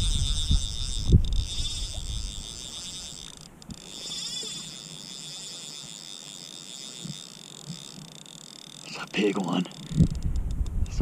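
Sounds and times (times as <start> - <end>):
fishing reel ratchet buzzing: 0.0 - 11.0.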